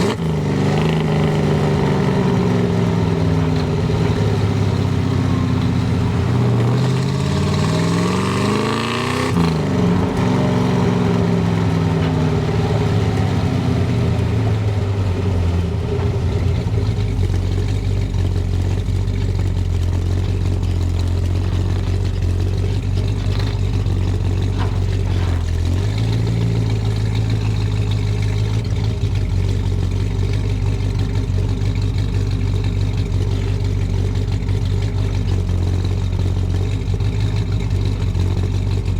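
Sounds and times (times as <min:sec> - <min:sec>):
car engine exhaust revving: 0:00.0 - 0:38.9.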